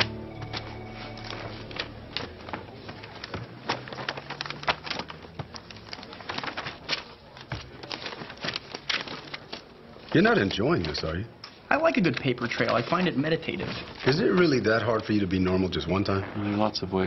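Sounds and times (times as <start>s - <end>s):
paper sheets flipping: 0.0s - 11.2s, 12.2s - 15.4s.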